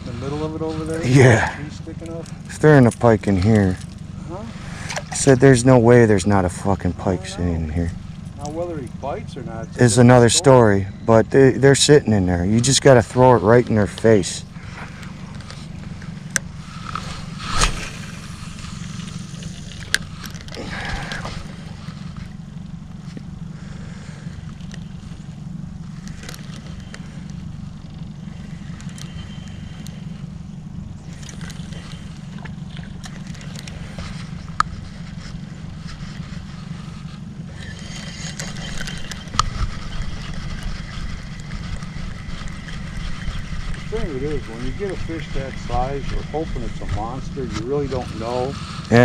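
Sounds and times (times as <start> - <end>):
boat motor humming: 0.0 - 49.0.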